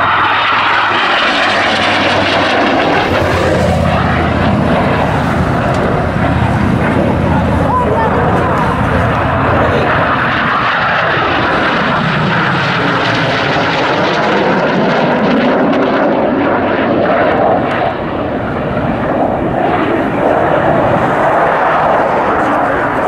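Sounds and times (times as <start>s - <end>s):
jet flying past: 0.0s - 23.0s.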